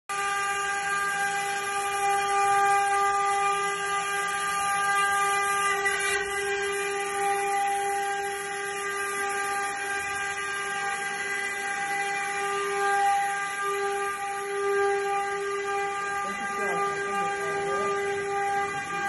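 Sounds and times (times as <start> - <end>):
router spindle whining: 0.1 - 19.0.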